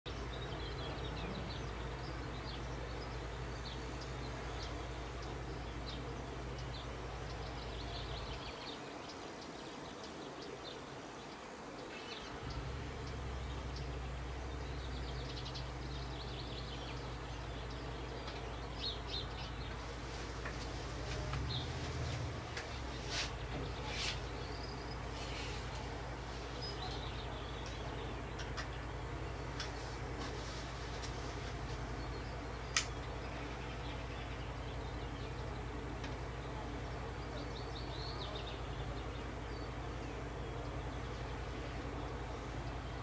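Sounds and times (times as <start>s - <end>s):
small birds chirping: 0.1s - 43.0s
steady low hum: 0.1s - 43.0s.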